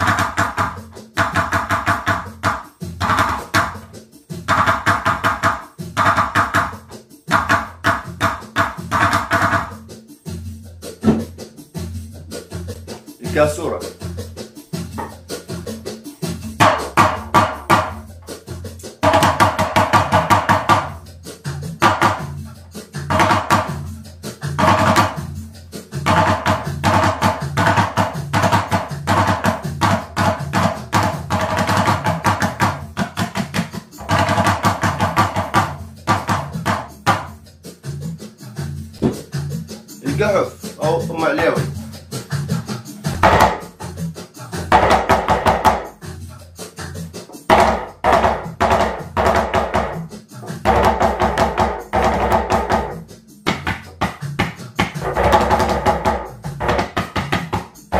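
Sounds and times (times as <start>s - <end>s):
hand drum played fast: 0.0s - 10.0s, 10.9s - 37.5s, 38.9s - 46.0s, 47.0s - 57.9s
recorded percussion rhythm: 0.0s - 57.9s.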